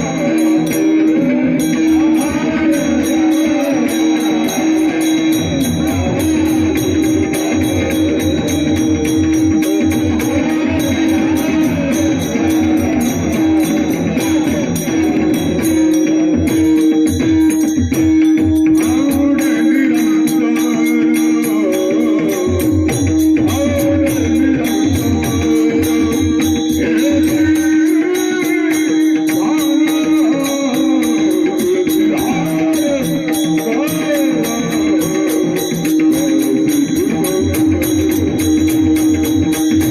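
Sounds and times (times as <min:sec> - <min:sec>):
man singing devotional phrases: 0:00.0 - 0:16.0, 0:18.7 - 0:38.2
small hand cymbals jingling: 0:00.0 - 0:39.9.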